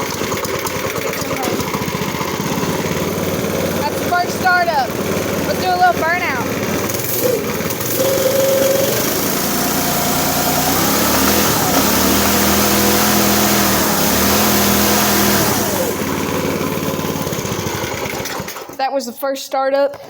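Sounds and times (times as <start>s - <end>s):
go-kart engine revving: 0.0s - 18.8s.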